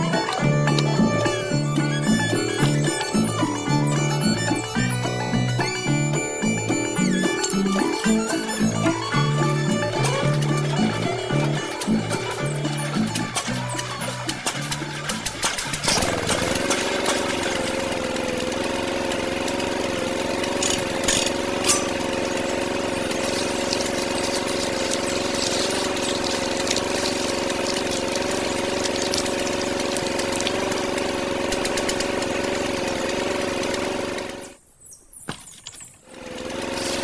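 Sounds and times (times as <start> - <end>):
small electric motor whining: 0.0 - 34.6, 35.9 - 37.0.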